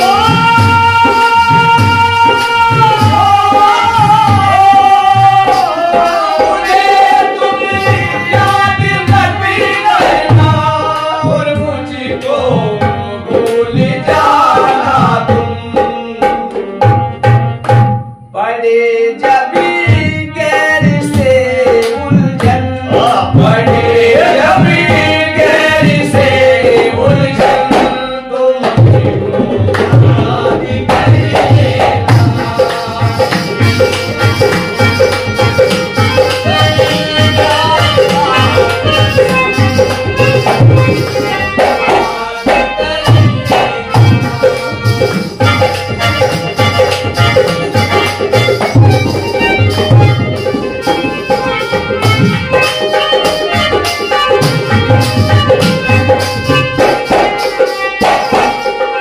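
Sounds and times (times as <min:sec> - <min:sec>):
dholak drum beat: 0:00.0 - 0:59.0
harmonium: 0:00.0 - 0:59.0
men singing: 0:00.0 - 0:59.0.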